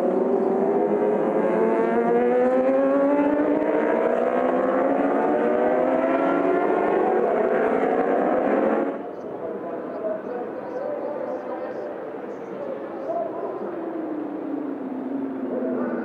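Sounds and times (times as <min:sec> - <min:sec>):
motorcycles accelerating: 0:00.0 - 0:16.0.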